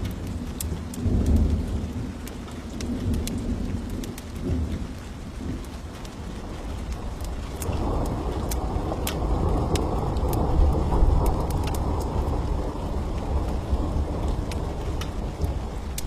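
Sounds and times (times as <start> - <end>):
thunder rumbling: 0.0 - 16.0
wood fire crackling and popping: 0.0 - 16.0.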